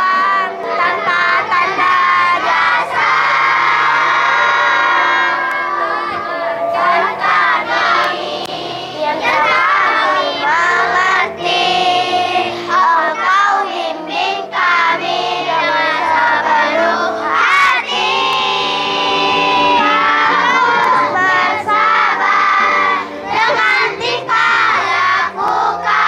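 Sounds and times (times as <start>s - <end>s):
children's choir singing: 0.0s - 26.0s.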